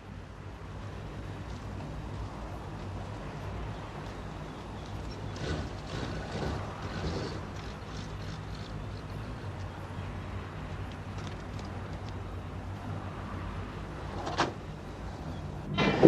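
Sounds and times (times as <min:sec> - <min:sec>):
van engine and road noise: 0:00.0 - 0:16.0.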